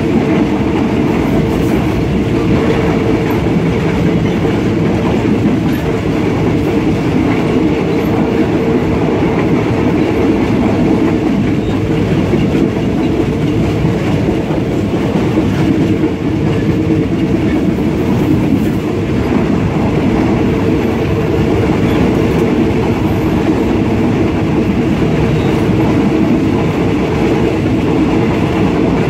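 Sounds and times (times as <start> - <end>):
train rumbling and rattling: 0.0 - 29.0.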